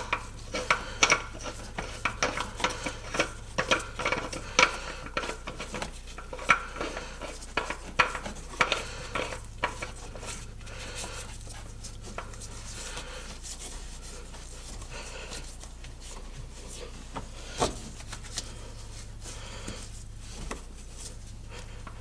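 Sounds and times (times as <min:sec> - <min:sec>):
soft steady rubbing: 0:00.0 - 0:22.0.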